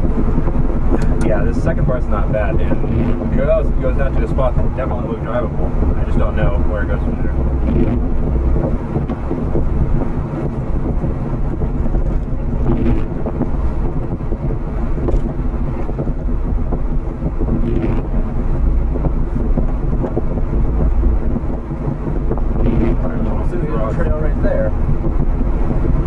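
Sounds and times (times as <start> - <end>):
car engine drone: 0.0 - 26.0
tyre and body rumble: 0.0 - 26.0.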